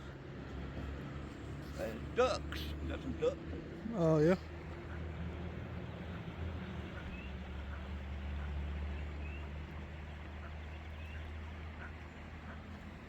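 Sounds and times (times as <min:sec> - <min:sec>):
ducks calling faintly: 0:00.5 - 0:13.0.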